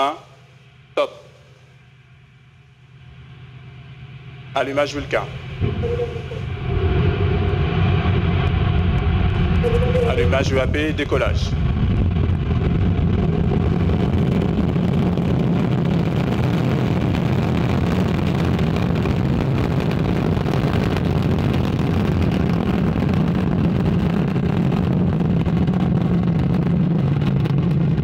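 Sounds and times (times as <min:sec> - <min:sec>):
rocket engines roaring: 0:02.9 - 0:28.0.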